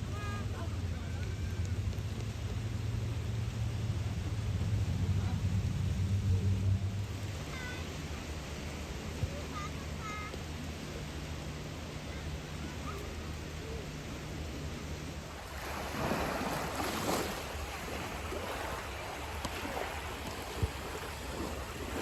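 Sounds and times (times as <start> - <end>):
small waves washing onto beach: 0.0 - 22.0
steady low rumble: 0.0 - 22.0.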